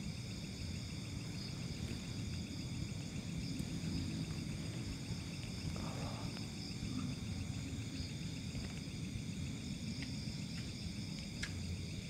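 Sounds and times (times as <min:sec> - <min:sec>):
crickets and insects trilling: 0:00.0 - 0:12.0.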